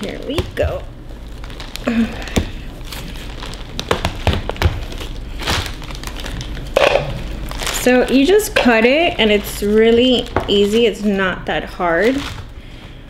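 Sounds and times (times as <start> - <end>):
plastic bag crinkling: 0.0 - 13.0
wax cracking: 0.0 - 13.0.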